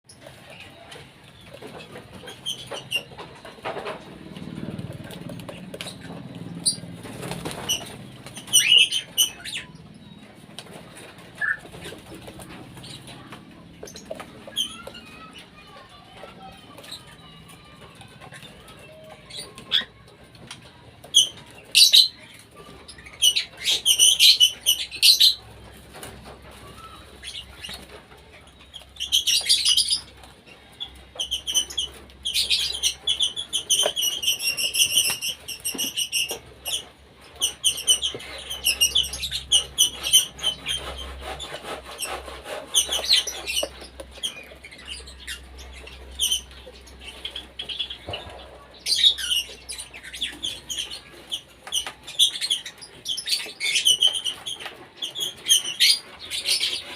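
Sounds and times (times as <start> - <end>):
cockatiels chirping: 5.0 - 56.9.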